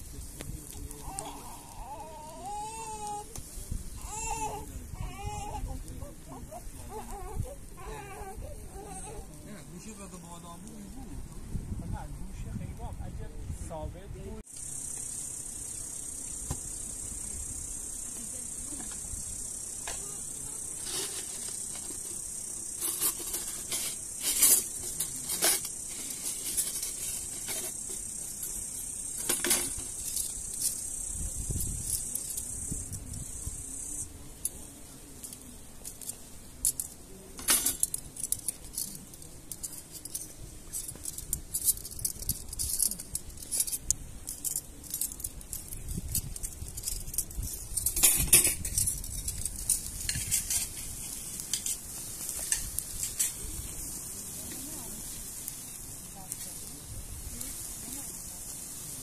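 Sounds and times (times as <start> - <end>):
high insect buzz: 0.0 - 11.7, 14.5 - 59.0.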